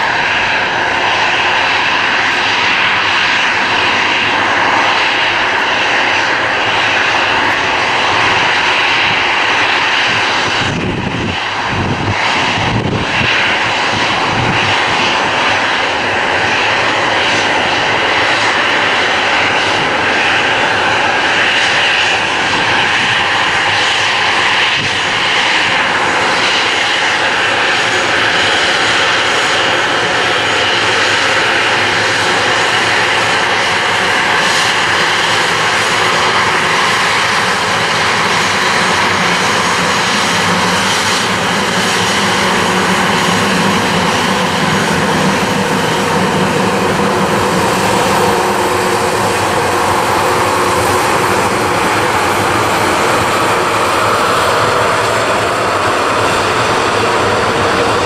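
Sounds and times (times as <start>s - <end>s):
faint engine whine: 0.0s - 58.0s
jet engines at taxi power: 0.0s - 58.0s.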